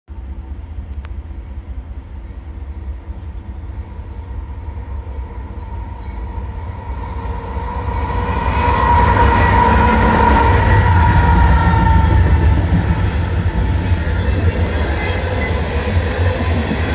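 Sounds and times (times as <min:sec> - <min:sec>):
diesel locomotive engine rumble: 0:00.1 - 0:16.9.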